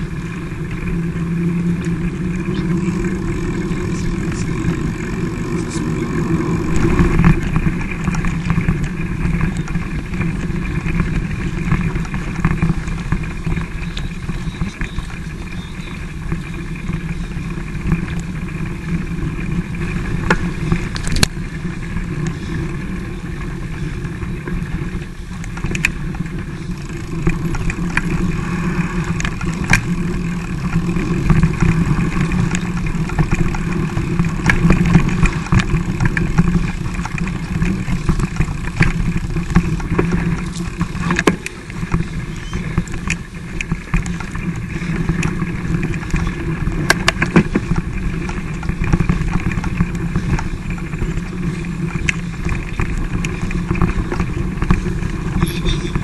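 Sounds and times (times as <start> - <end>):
bike and camera rattling: 0.0 - 56.0
tyres rough rumble: 0.0 - 56.0.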